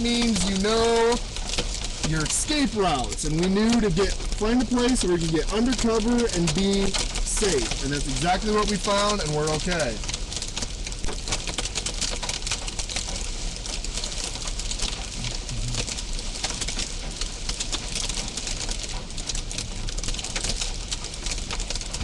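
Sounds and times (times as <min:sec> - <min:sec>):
hail pelting a vehicle roof: 0:00.0 - 0:22.0.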